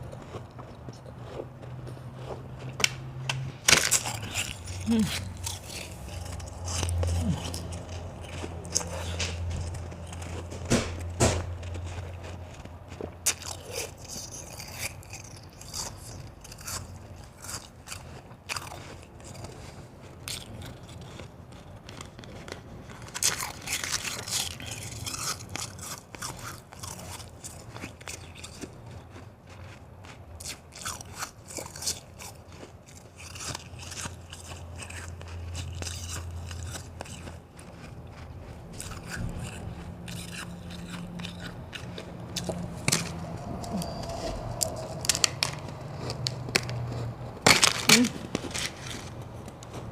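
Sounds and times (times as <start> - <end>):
ice being chewed: 0.0 - 49.9.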